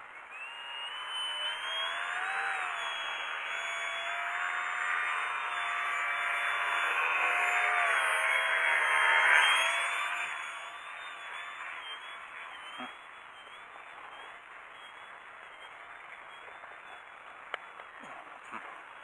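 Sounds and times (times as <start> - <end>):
electric motor and propeller whining: 0.1 - 18.0.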